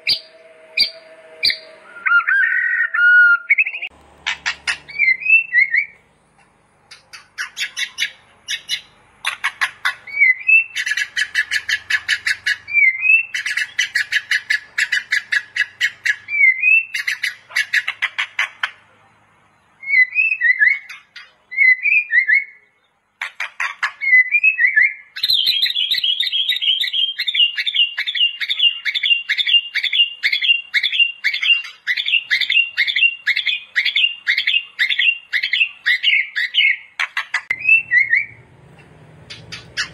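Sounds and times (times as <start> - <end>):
songbird chattering and whistling: 0.0 - 19.0, 19.6 - 39.9.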